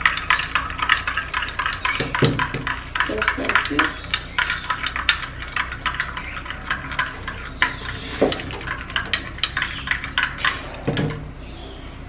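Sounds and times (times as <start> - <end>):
spoon scraping and clinking bowl: 0.0 - 11.2.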